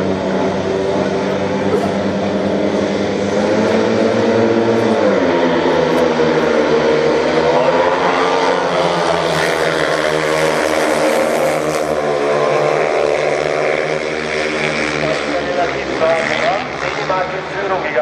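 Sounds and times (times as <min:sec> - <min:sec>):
motorcycle engines racing: 0:00.0 - 0:18.0.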